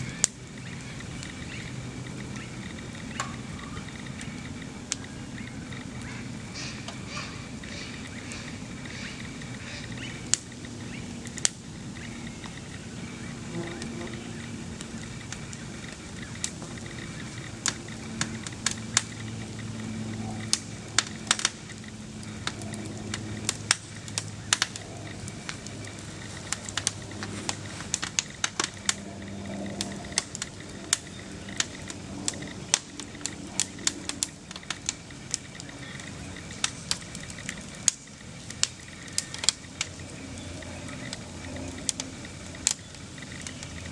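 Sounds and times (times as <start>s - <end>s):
faint low drone: 0.0s - 43.9s
fire crackling and popping: 0.0s - 43.9s.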